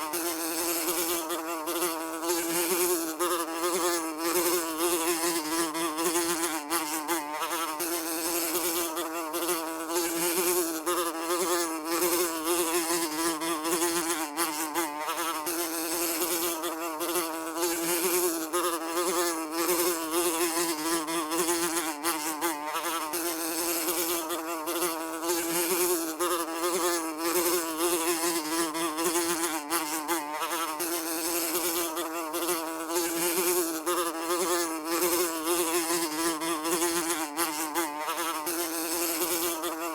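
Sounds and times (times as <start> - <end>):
housefly buzzing: 0.0 - 39.9.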